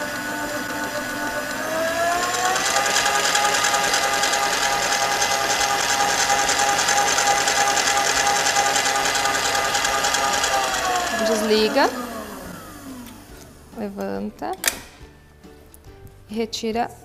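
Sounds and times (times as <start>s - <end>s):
stand mixer motor whine: 0.0s - 13.7s.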